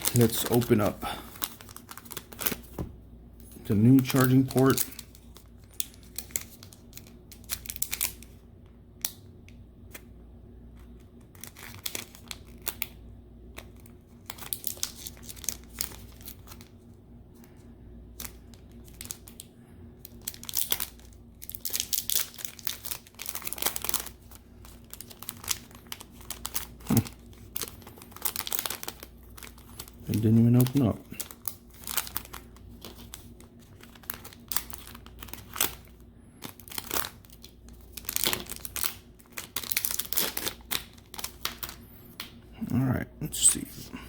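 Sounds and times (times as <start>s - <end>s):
plastic packet crinkling: 0.0s - 2.8s, 3.6s - 8.4s, 10.9s - 16.9s, 18.1s - 42.3s.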